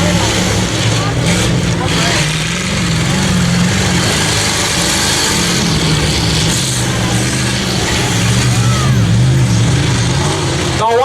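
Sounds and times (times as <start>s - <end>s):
broad rushing noise: 0.0s - 11.0s
truck engines racing: 0.0s - 11.0s.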